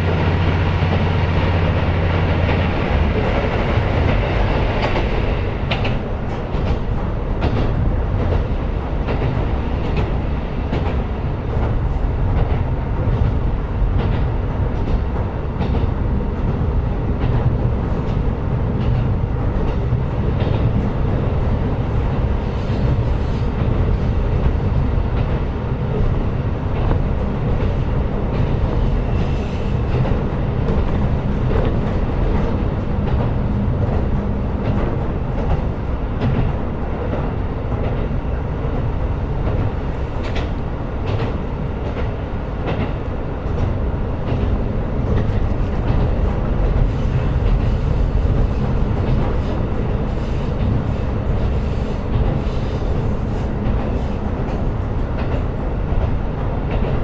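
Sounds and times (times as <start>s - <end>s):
railcar rumbling on rails: 0.0s - 57.0s.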